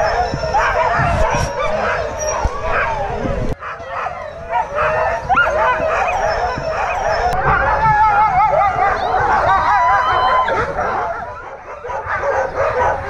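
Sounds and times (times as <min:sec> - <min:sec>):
sled dogs yelping and howling: 0:00.0 - 0:13.0.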